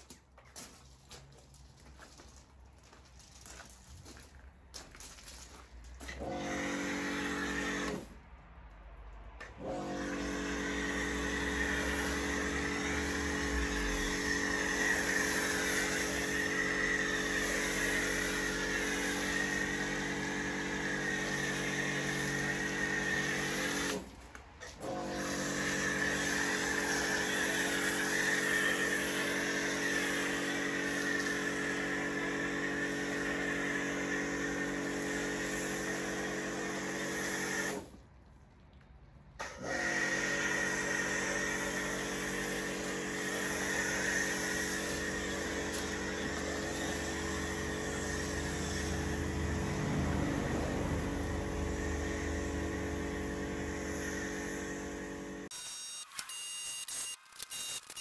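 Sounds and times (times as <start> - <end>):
pressure washer motor hum: 6.0 - 8.2, 9.4 - 38.1, 39.4 - 55.5.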